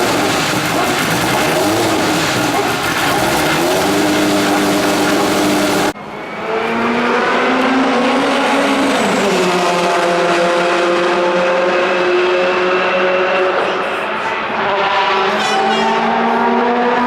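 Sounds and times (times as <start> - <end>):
louder closer engine: 0.0 - 17.0
race car engine at speed: 0.0 - 17.0.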